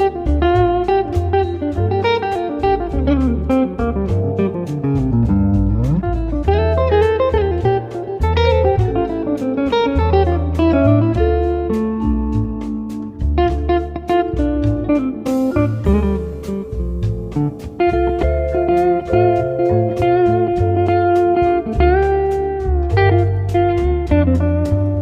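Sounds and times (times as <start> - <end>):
blues guitar music with bass: 0.0 - 25.0.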